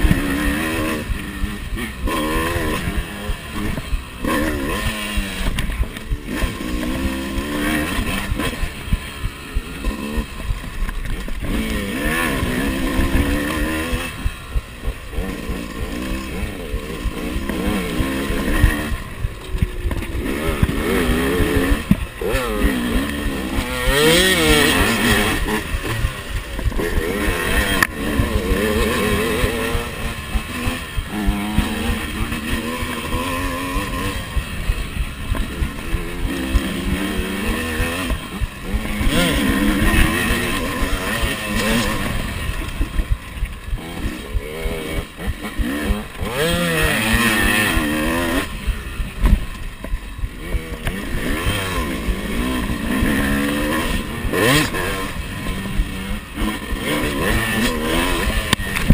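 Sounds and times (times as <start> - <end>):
low rumble of wind: 0.0 - 58.9
motocross bike engine revving: 0.0 - 58.9.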